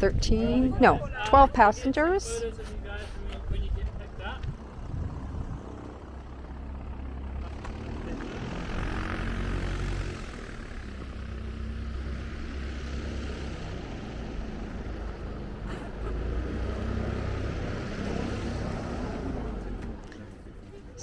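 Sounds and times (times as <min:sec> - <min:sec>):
propeller aircraft engine running: 0:00.0 - 0:21.0.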